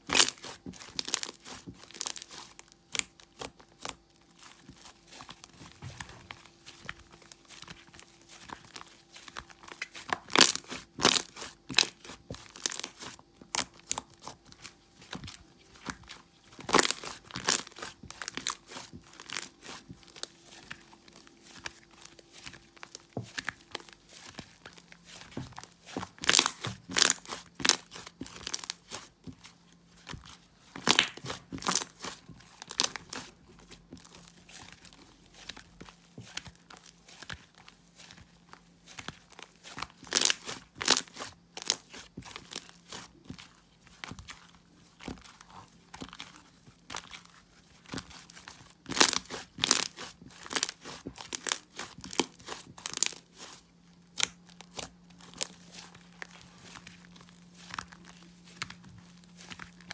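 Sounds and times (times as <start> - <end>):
slime crackling and popping: 0.0 - 5.7, 8.4 - 20.8, 21.5 - 29.2, 30.0 - 44.4, 45.0 - 59.9.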